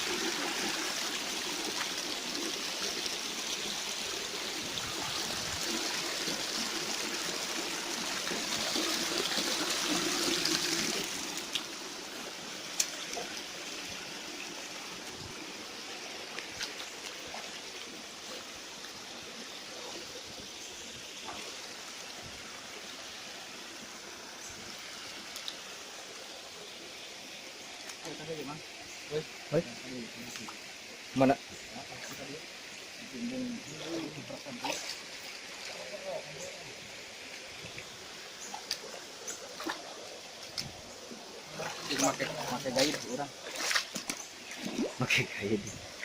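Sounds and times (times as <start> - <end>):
river water running over stones: 0.0 - 46.0.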